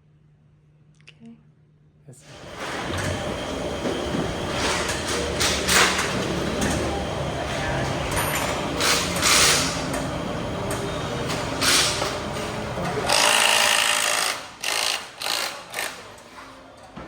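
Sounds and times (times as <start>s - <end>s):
power tool running: 2.3s - 16.2s.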